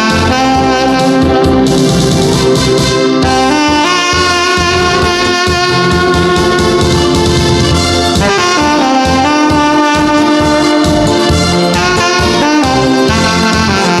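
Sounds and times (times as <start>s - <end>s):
backing track with bass beat: 0.0s - 14.0s
tenor saxophone melody: 0.0s - 14.0s.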